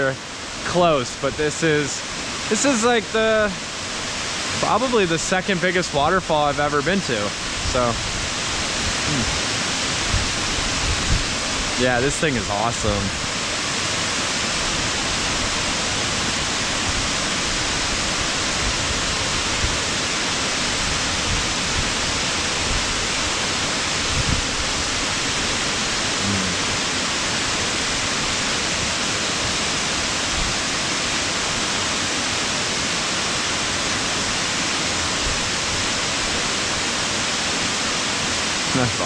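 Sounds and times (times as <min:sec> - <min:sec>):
waterfall pouring onto rocks: 0:00.0 - 0:39.0.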